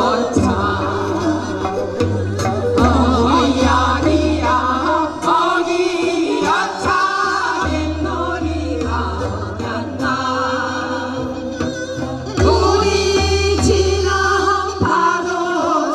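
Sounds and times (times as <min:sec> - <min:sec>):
drum strokes: 0:00.0 - 0:15.3
instrumental backing with bass: 0:00.0 - 0:15.9
women singing folk song: 0:00.0 - 0:15.9.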